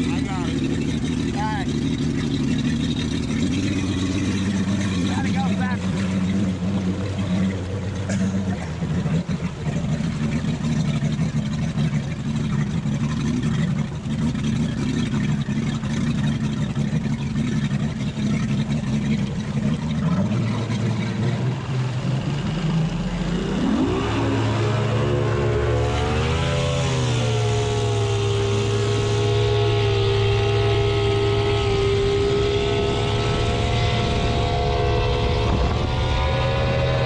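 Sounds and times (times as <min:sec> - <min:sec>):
outboard motor running: 0:00.0 - 0:37.0
water splashing past hull: 0:00.0 - 0:37.0.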